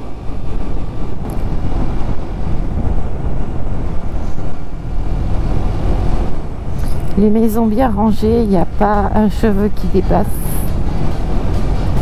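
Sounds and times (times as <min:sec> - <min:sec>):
motorcycle and road drone: 0:00.0 - 0:12.0
wind buffeting microphone: 0:00.0 - 0:12.0.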